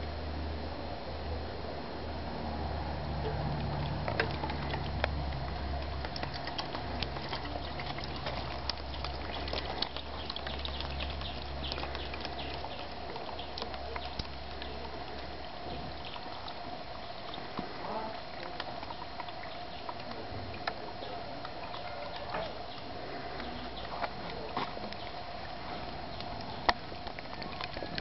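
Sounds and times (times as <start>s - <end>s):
water trickling and dripping: 3.0s - 28.0s.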